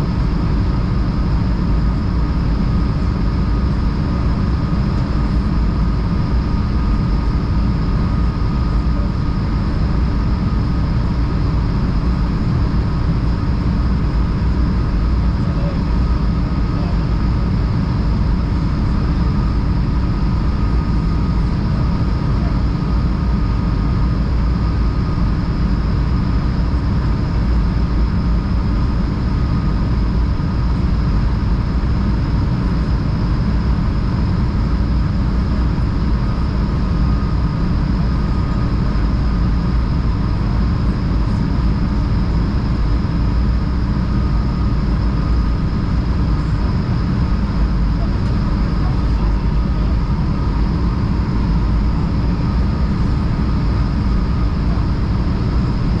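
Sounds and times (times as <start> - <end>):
deep rumble of airflow: 0.0 - 56.0
faint steady whine: 0.0 - 56.0.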